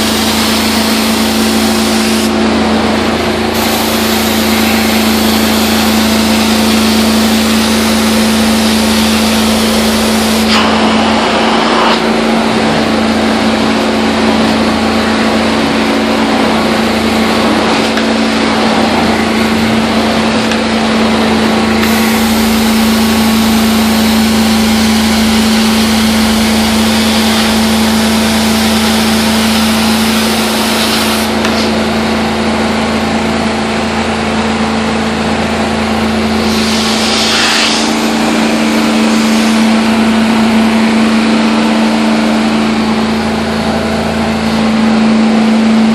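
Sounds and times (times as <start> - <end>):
carpet steam cleaner running: 0.0 - 45.9.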